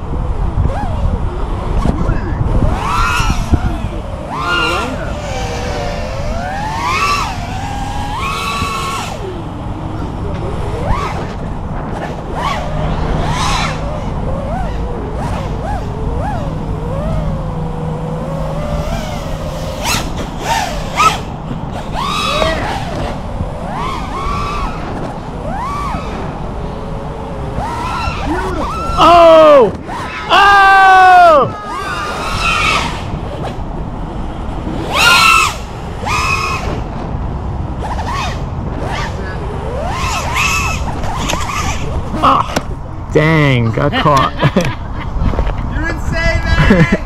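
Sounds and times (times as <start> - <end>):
low rushing noise: 0.0 - 44.2
quadcopter motors whining: 0.0 - 47.0.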